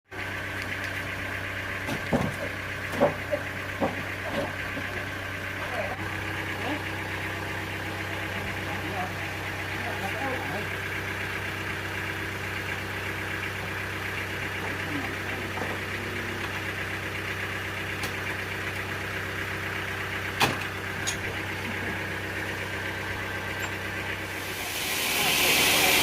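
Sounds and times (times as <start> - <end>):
sawmill motor humming: 0.1 - 26.0.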